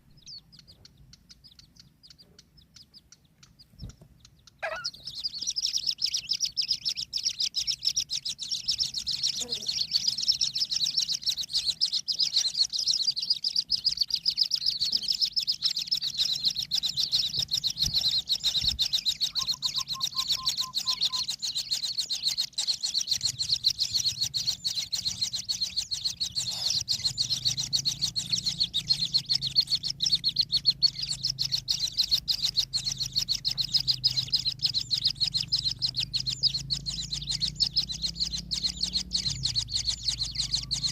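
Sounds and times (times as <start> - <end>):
bird nestlings begging buzz: 0.2 - 40.9.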